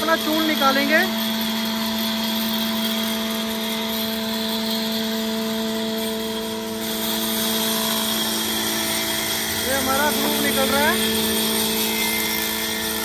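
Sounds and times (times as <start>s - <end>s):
bandsaw cutting wood: 0.0s - 13.0s
woodworking machine hum: 0.0s - 13.0s.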